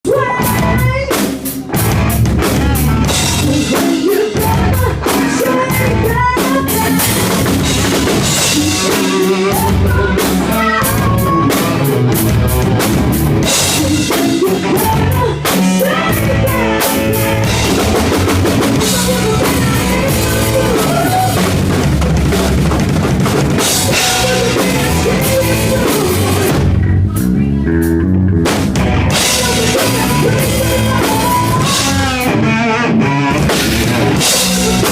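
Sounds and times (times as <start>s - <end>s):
rock band playing: 0.0s - 34.9s
bass drum and snare beat: 0.4s - 32.5s, 33.3s - 34.9s.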